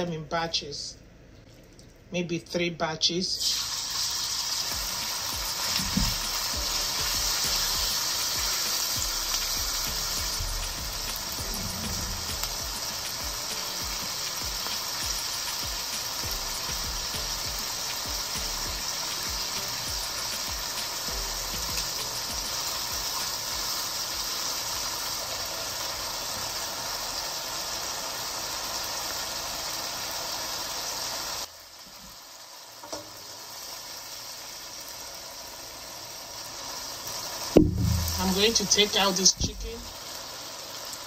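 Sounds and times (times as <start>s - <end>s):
chicken sizzling in hot oil: 3.4s - 41.0s.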